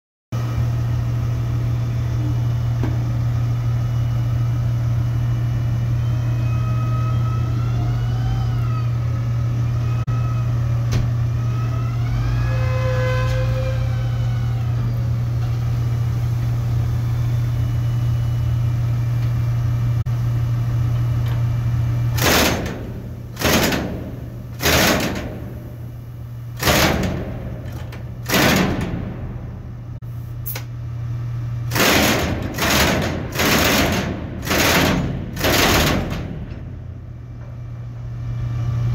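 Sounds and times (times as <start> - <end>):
heavy machinery drone: 0.4 - 38.9.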